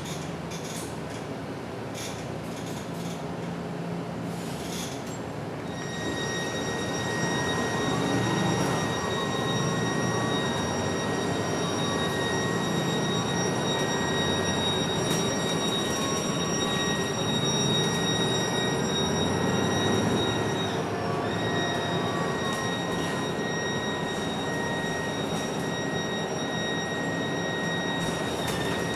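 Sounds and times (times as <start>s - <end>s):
bus engine rumble: 0.0s - 28.9s
high-pitched whine: 5.7s - 28.9s.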